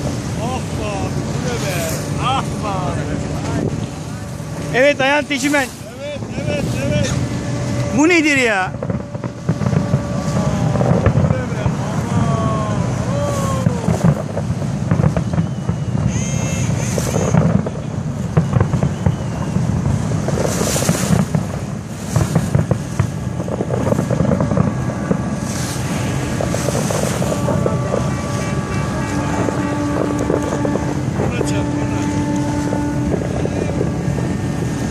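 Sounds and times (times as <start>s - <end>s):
boat engine rumble: 0.0s - 34.9s
wind buffeting microphone: 0.0s - 34.9s.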